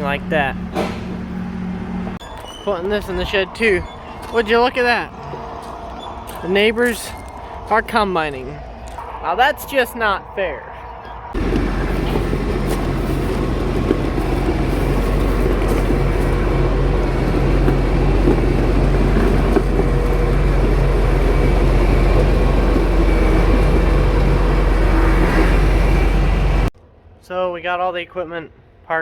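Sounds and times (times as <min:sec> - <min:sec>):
farm vehicle engine running: 0:00.0 - 0:09.0, 0:11.3 - 0:26.7.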